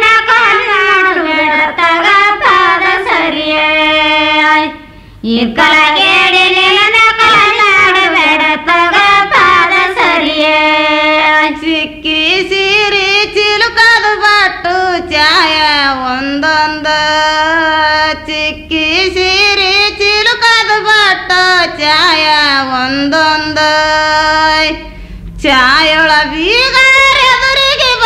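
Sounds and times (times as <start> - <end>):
women singing folk song: 0.0 - 28.0.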